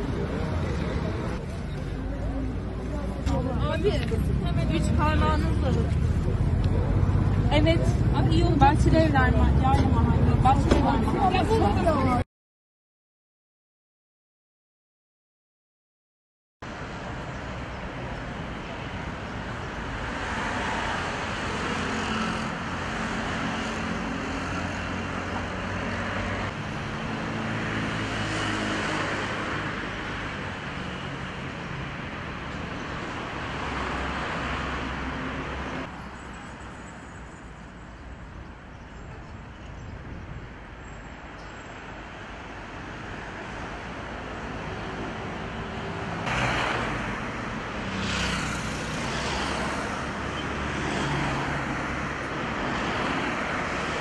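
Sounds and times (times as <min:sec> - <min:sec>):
distant traffic: 0:00.0 - 0:12.2, 0:16.7 - 0:54.0
passing cars: 0:00.0 - 0:12.2, 0:16.7 - 0:54.0.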